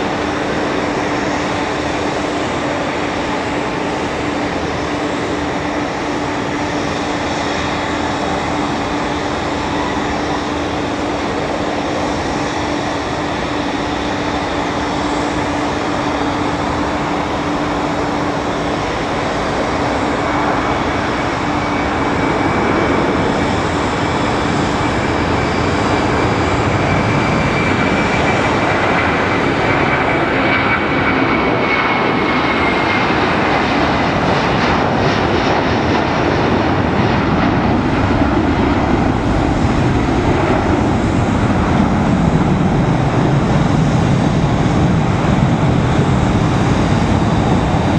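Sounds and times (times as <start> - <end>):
high jet engine whine: 0.0 - 47.9
jet engines at takeoff thrust: 0.0 - 47.9.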